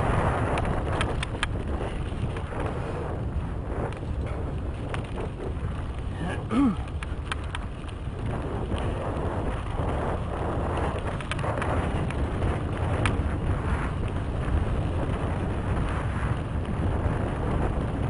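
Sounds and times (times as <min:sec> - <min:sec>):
bike rattling clicks: 0:00.0 - 0:18.0
tyre noise on dirt: 0:00.0 - 0:18.0
wind buffeting microphone: 0:00.0 - 0:18.0.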